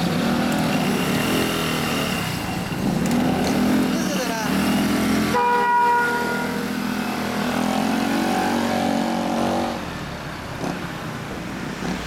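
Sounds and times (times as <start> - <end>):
motor scooter accelerating: 0.0 - 12.0
street traffic noise: 0.0 - 12.0.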